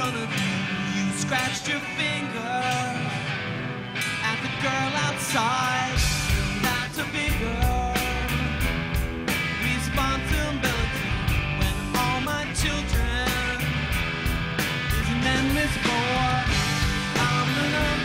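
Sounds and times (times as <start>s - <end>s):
man singing: 0.0s - 3.3s, 4.1s - 8.6s, 9.5s - 13.9s, 14.8s - 18.0s
drums: 0.0s - 18.0s
electric guitars: 0.0s - 18.0s
heavy bass: 0.0s - 18.0s.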